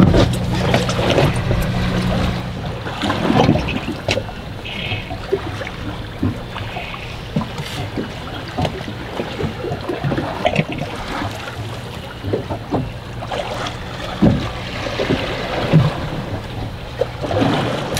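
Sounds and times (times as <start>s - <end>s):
boat engine low hum: 0.0s - 17.9s
water slapping against hull: 0.0s - 17.9s.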